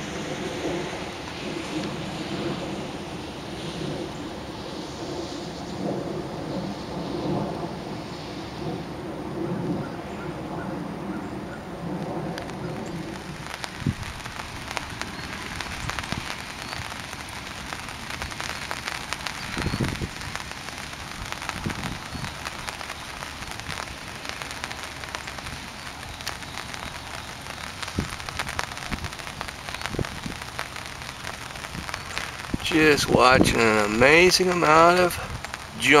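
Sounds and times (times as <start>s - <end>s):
rain pattering on umbrella: 0.0s - 36.0s.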